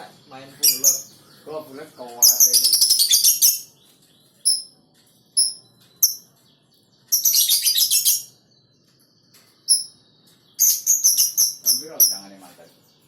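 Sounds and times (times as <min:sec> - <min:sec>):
lovebird chirping: 0:00.0 - 0:13.0.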